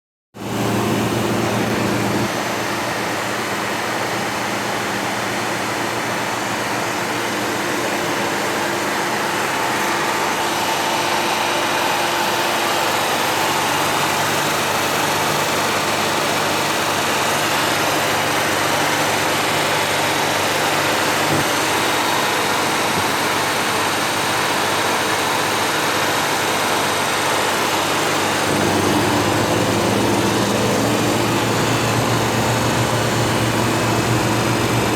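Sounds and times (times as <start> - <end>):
vacuum pump humming: 0.4 - 34.9.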